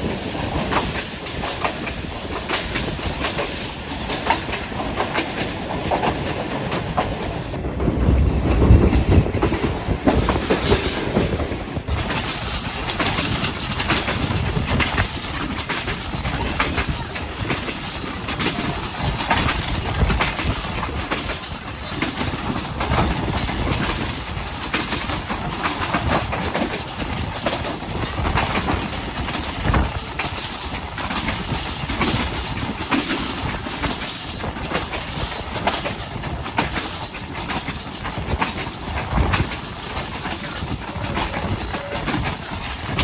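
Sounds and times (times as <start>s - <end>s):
train wheels clacking on rails: 0.0s - 43.0s.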